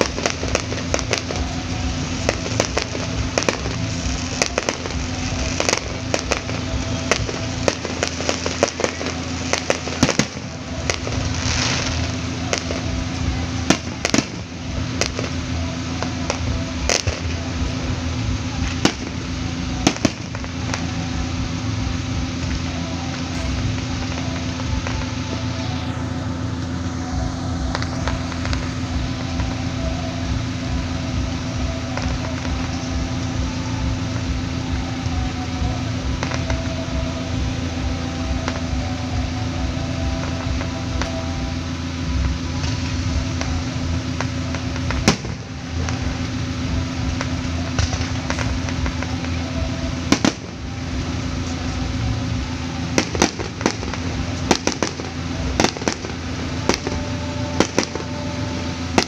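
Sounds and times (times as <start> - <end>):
crackling firework pops: 0.0 - 25.9, 27.3 - 30.3, 36.0 - 37.4, 40.2 - 58.3
distant fireworks rumble: 0.0 - 59.0
sharp firework reports: 0.0 - 59.0.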